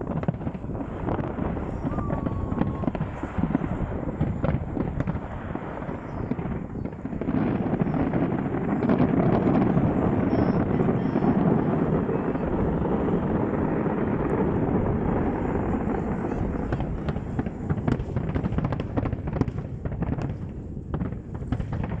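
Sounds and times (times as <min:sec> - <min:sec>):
fireworks bursts and crackling: 0:00.0 - 0:22.0.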